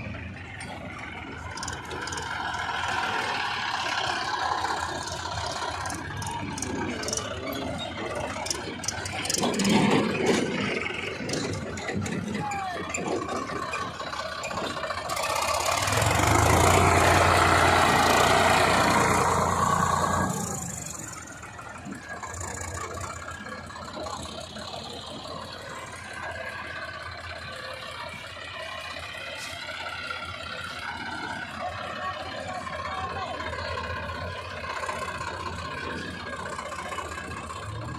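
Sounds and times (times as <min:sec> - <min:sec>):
diesel engine working hard: 0:00.0 - 0:37.9.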